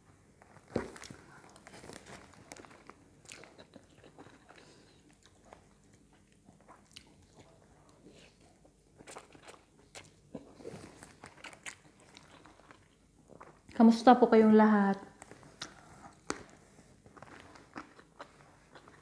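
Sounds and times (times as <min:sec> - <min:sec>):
person chewing and slurping noodles: 0:01.0 - 0:13.8, 0:15.2 - 0:19.0.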